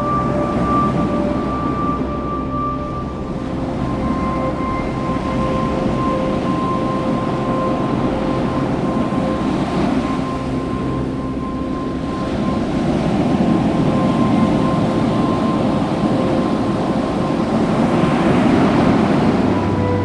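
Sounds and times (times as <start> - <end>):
held musical tones: 0.0 - 20.0
ocean surf rushing: 0.0 - 20.0.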